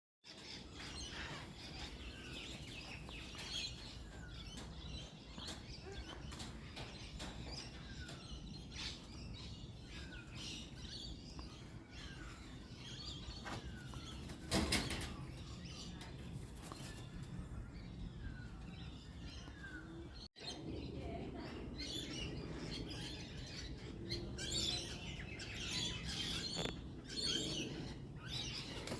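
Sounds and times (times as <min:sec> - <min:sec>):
birds chirping: 0:00.2 - 0:28.9.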